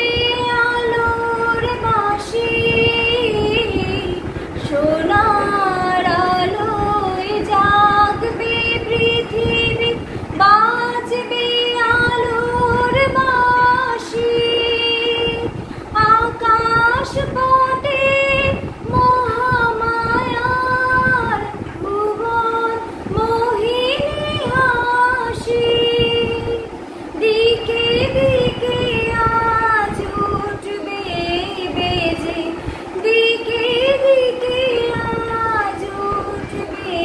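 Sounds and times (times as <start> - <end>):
woman singing solo: 0.0 - 37.0.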